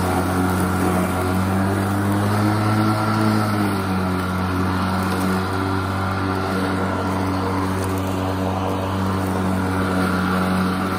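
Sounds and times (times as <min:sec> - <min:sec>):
electric lawn mower running: 0:00.0 - 0:10.9.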